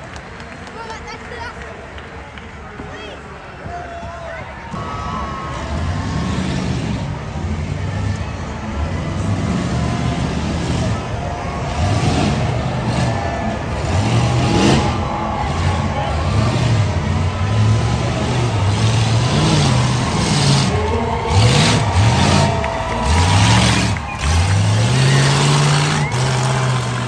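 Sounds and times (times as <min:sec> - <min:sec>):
race engine revving: 0:04.7 - 0:27.0.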